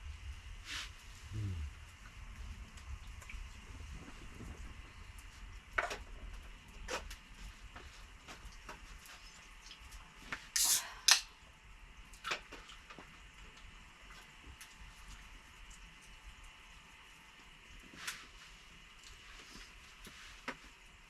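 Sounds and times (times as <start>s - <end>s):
rain on a tent: 0.0s - 10.5s, 12.1s - 21.0s.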